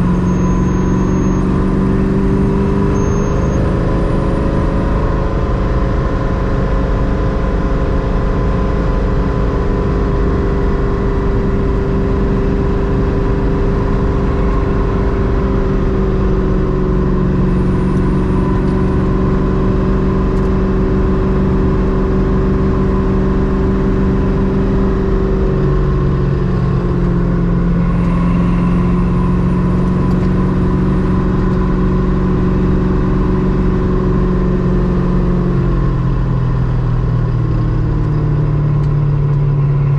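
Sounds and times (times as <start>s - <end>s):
car engine cruising: 0.0s - 39.9s
tyre and road noise: 0.0s - 39.9s.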